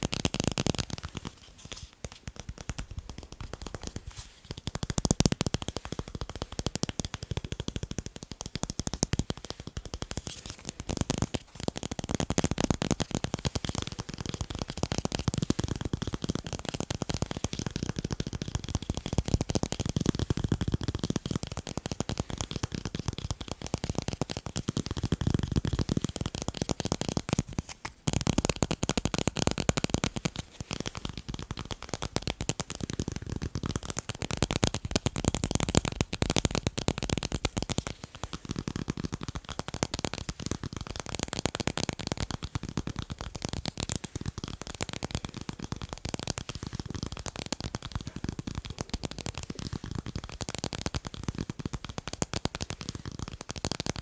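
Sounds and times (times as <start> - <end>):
fingertips tapping on tape: 0.0 - 54.0.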